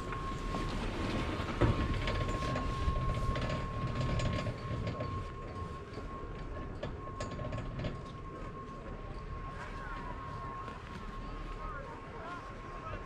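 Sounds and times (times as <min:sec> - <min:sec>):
chairlift machinery whine: 0:00.0 - 0:13.0
low machinery rumble: 0:00.0 - 0:13.0.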